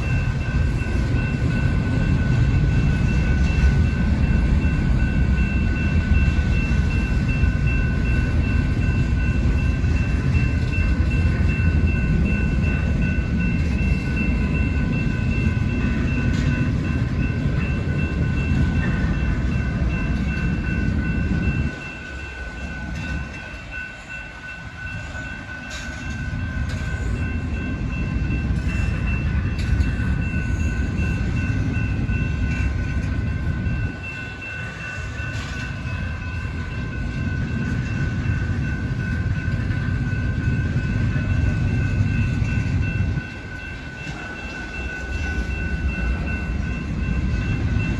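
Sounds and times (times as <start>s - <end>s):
freight train wheels rumbling on rail: 0.0s - 47.9s.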